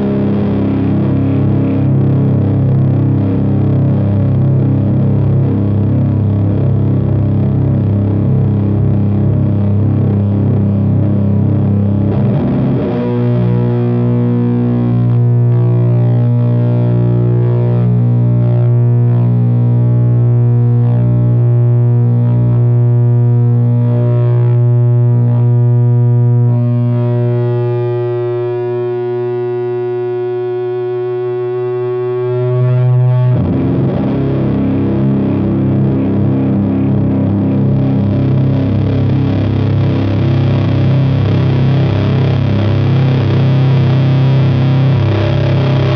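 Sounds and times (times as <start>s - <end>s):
distorted electric guitar drone chords: 0.0s - 45.9s.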